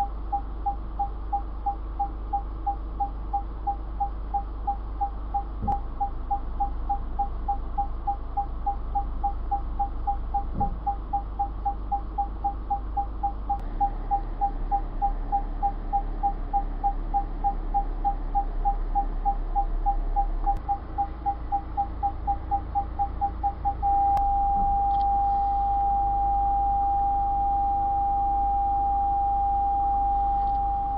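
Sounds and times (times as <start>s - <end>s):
low hum: 0.0s - 30.9s
parking sensor beeping: 0.0s - 30.9s.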